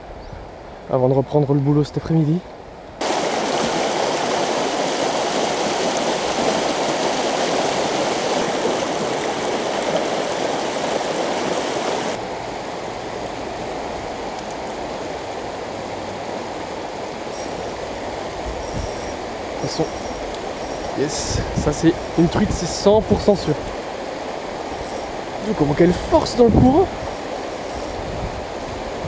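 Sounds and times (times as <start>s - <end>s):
river water rushing over riffle: 3.0s - 29.0s.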